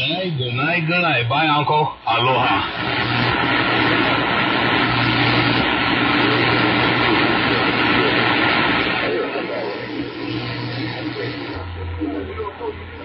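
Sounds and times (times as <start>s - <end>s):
low hum: 0.0s - 13.0s
radio static hiss: 0.0s - 13.0s.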